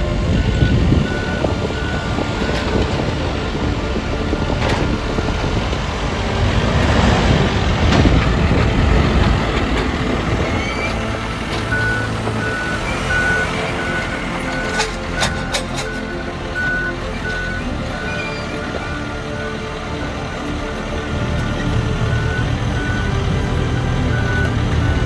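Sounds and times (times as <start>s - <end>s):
heavy trucks and machinery rumbling: 0.0s - 25.0s
reversing alarm beeping: 0.2s - 6.0s, 8.0s - 19.7s, 21.5s - 25.0s.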